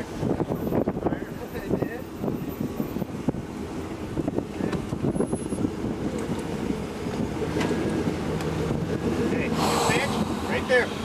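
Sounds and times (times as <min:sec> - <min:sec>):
engine running at low revs: 0:00.0 - 0:11.0
wind buffeting microphone: 0:00.0 - 0:11.0.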